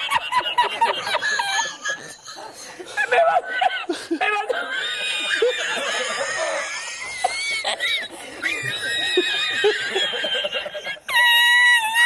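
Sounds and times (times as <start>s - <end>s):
men laughing hard: 0.0s - 12.0s.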